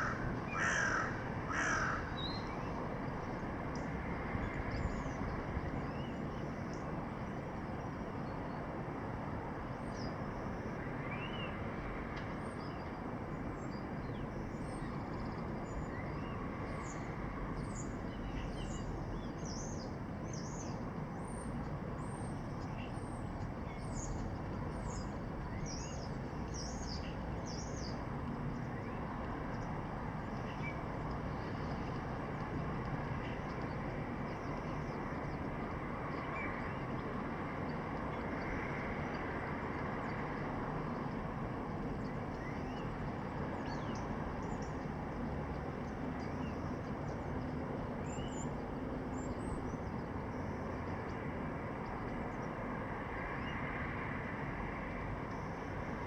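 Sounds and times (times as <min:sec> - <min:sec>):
city background hum: 0:00.0 - 0:56.0.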